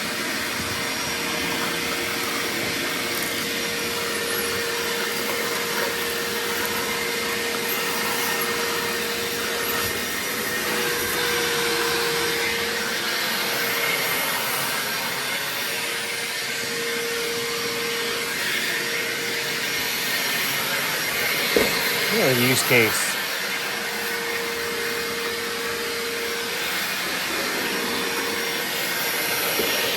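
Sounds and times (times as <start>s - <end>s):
shop vacuum running: 0.0s - 29.9s.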